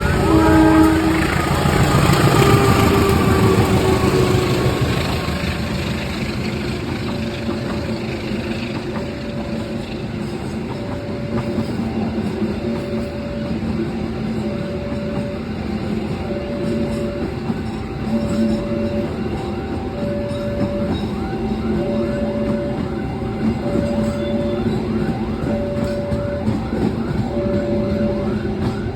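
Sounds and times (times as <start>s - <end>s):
two-tone electronic warning signal: 0.0s - 5.5s, 6.5s - 28.9s
diesel locomotive passing: 0.0s - 28.9s
train carriages rolling on rails: 0.0s - 28.9s.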